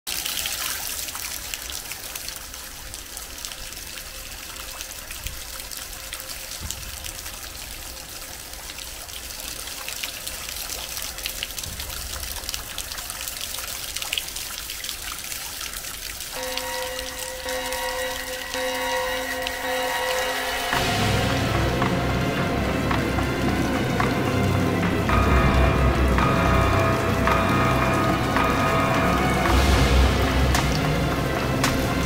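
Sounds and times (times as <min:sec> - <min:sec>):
heavy rain splashing into water: 0:00.1 - 0:32.0.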